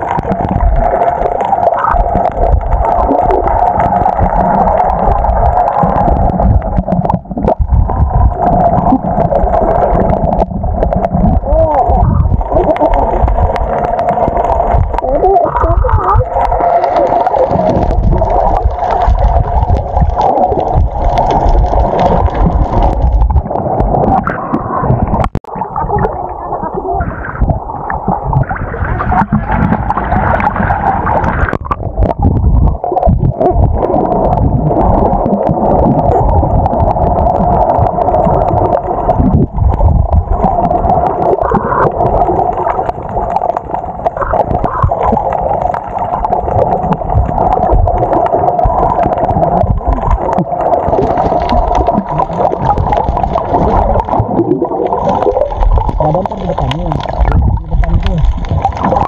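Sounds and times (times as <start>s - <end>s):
underwater gurgling and bubbles: 0.0s - 59.0s.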